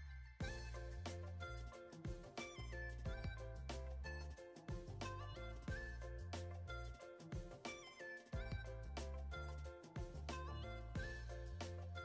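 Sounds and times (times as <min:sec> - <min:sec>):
background music with beat: 0:00.4 - 0:12.0.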